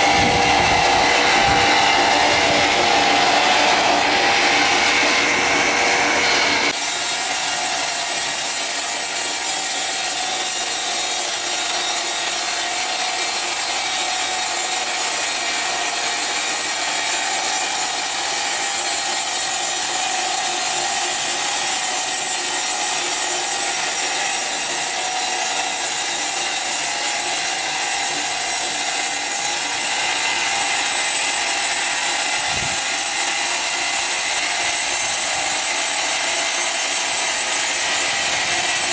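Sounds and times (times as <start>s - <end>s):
saw blade rasping through wood: 0.0s - 38.9s.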